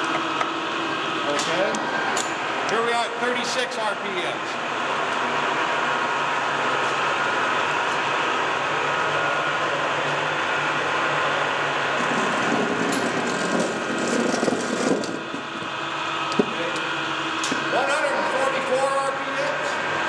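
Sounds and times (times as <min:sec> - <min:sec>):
lathe humming with faint whine: 0:00.0 - 0:20.0.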